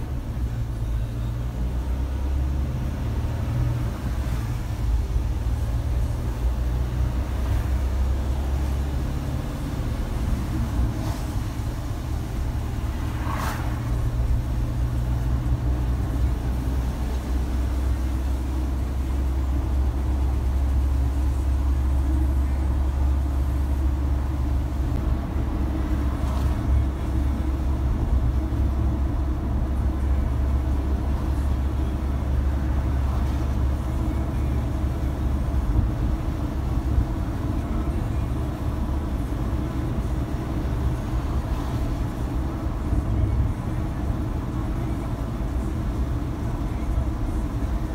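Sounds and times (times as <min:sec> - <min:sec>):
car engine and tyres drone: 0:00.0 - 0:47.9.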